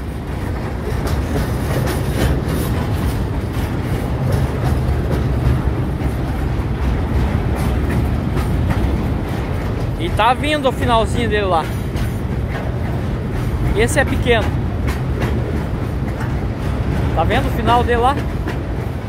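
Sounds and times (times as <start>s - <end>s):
train wheels rumbling on rails: 0.0s - 19.0s
wheels clicking and clacking: 0.0s - 19.0s.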